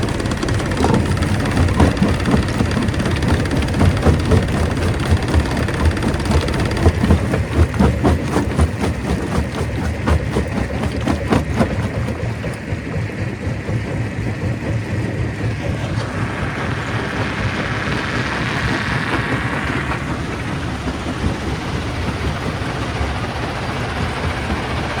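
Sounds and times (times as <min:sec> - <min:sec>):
stone crusher machine running: 0:00.0 - 0:25.0.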